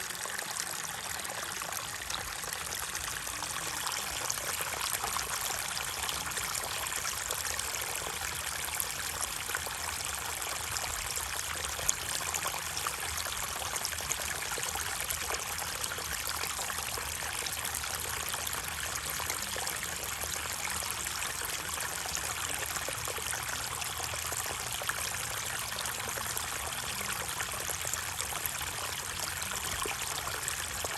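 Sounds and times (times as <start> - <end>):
flowing water: 0.0 - 30.9.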